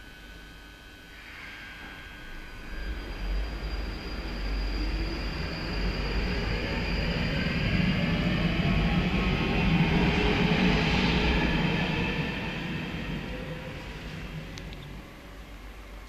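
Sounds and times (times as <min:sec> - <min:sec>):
underground train rumbling on track: 0:02.6 - 0:16.0.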